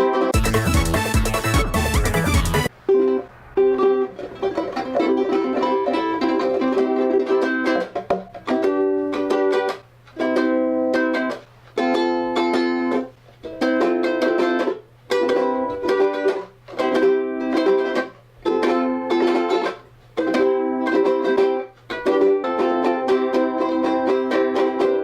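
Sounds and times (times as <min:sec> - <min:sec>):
ukulele strumming chords: 0:00.0 - 0:25.0.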